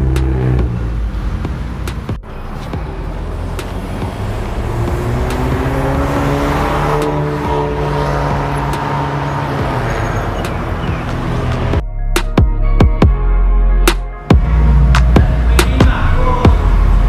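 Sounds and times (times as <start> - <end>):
car engine revving: 0.0 - 11.8, 14.2 - 17.0.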